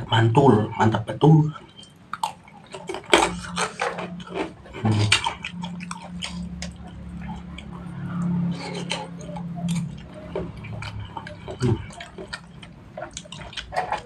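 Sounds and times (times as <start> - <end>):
low steady hum: 0.0 - 14.0
person chewing and slurping: 1.6 - 14.0.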